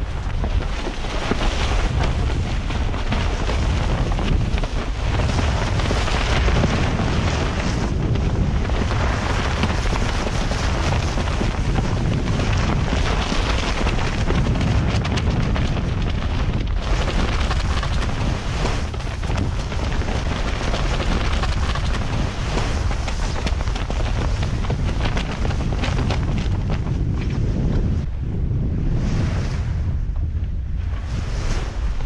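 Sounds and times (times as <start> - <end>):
sail flogging and flapping: 0.0 - 32.0
waves rushing along hull: 0.0 - 32.0
wind buffeting microphone: 0.0 - 32.0.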